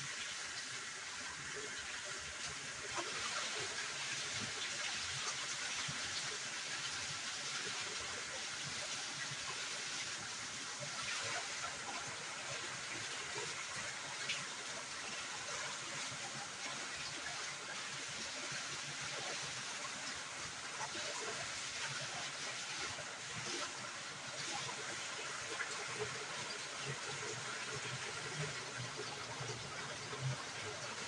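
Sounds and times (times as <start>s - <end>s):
water pouring into a sump: 0.1s - 31.0s.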